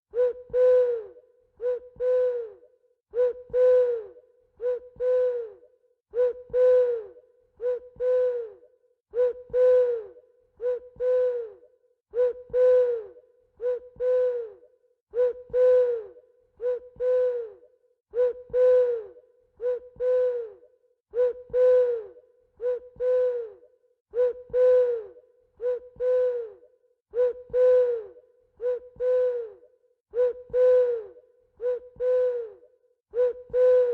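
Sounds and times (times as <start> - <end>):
owl hooting: 0.1 - 33.9.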